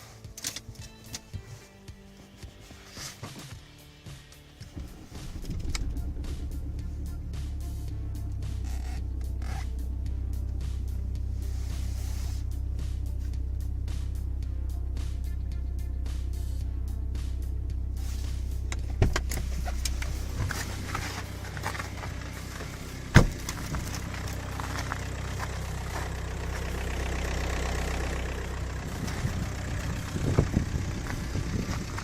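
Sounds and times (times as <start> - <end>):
diesel engine idling: 3.7 - 32.0.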